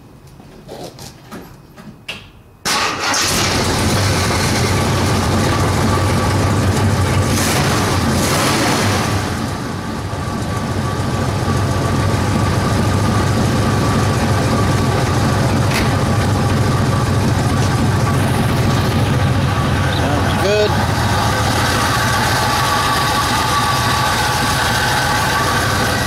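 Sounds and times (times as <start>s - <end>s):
car engine starting and idling: 2.7s - 26.0s.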